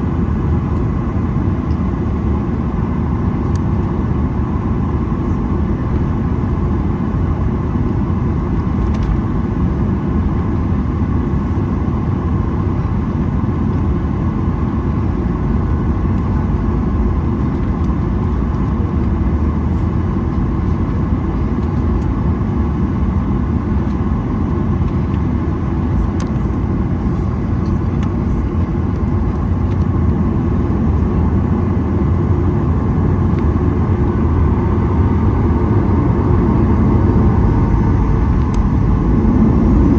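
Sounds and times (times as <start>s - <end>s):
jet cabin rumble: 0.0s - 39.9s.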